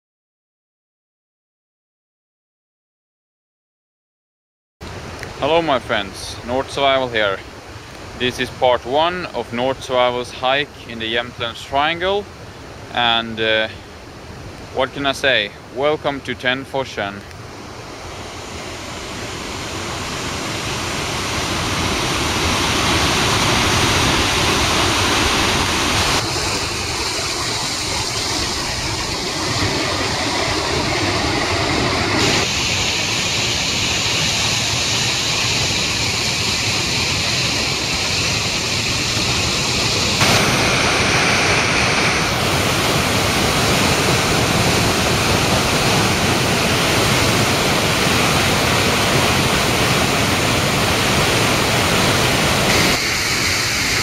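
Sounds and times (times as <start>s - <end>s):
waterfall rushing: 4.9s - 54.0s.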